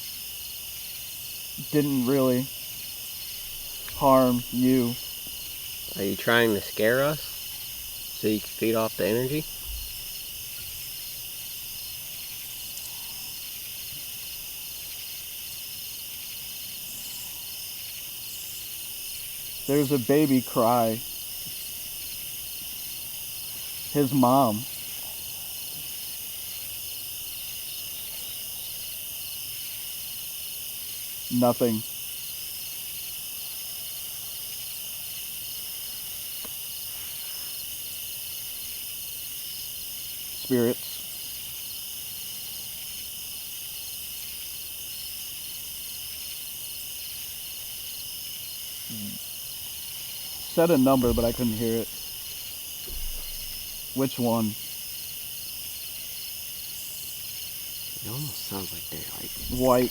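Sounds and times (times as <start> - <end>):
crickets trilling: 0.0 - 59.9
faint hiss: 0.0 - 59.9.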